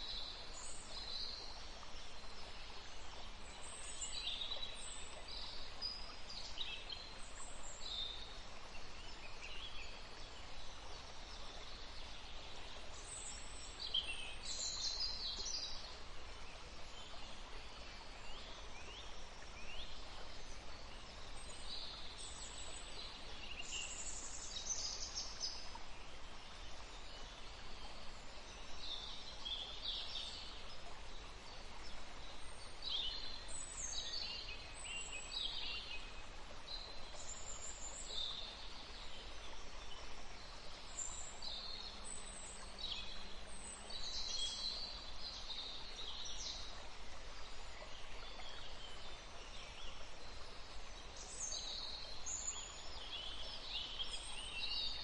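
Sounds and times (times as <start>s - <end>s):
outdoor ambience hiss: 0.0s - 55.0s
songbirds singing and chirping: 0.0s - 55.0s.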